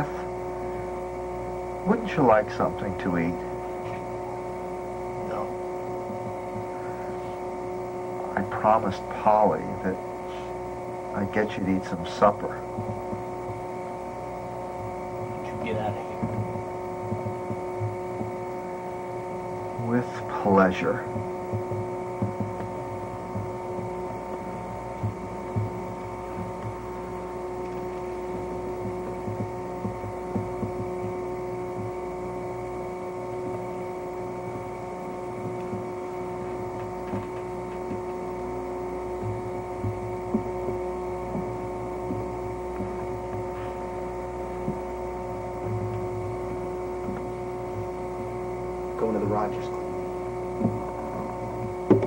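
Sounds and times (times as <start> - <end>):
electrical hum: 0.0 - 52.0
faint low thumps: 0.0 - 52.0.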